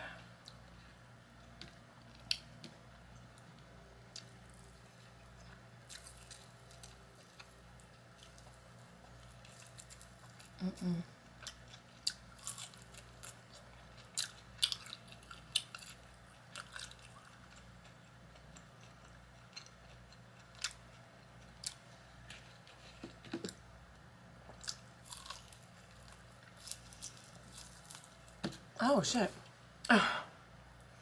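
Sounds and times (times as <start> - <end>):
person chewing food: 0.2 - 10.6, 11.2 - 28.4.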